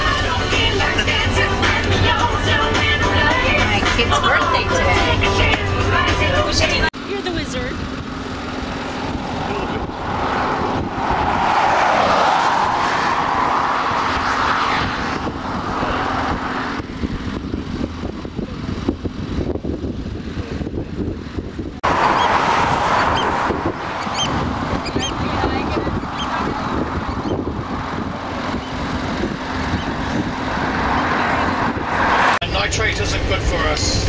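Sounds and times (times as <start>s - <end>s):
car road and wind noise: 0.0s - 34.0s.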